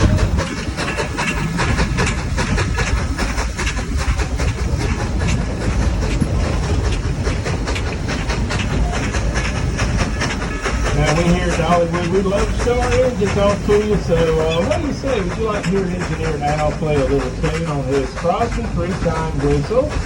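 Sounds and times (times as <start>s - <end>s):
train low rumble: 0.0s - 20.0s
wheels clicking over rails: 0.0s - 20.0s.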